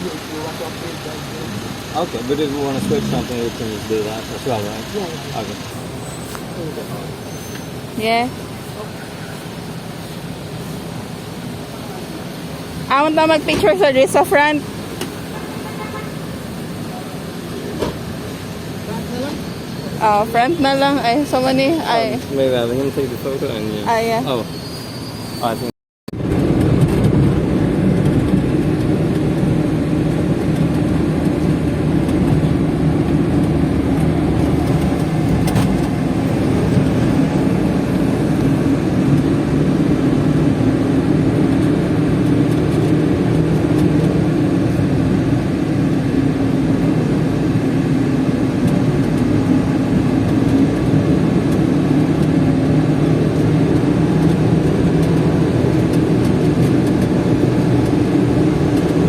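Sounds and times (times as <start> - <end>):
road noise: 0.0 - 59.0
vehicle engine driving: 0.0 - 59.0.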